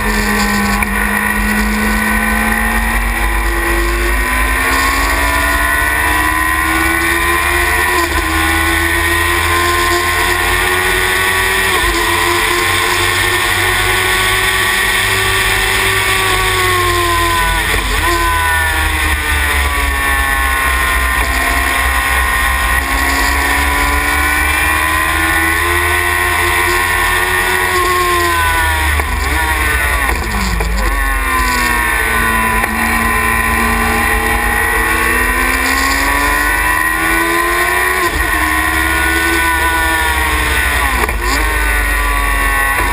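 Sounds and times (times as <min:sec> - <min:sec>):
racing car engine revving: 0:00.0 - 0:42.9.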